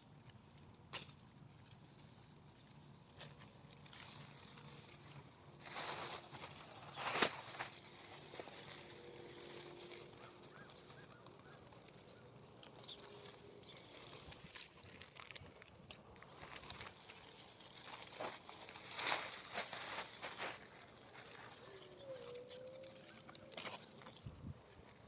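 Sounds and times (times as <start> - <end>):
rustling of canes and leaves: 0.1 - 25.0.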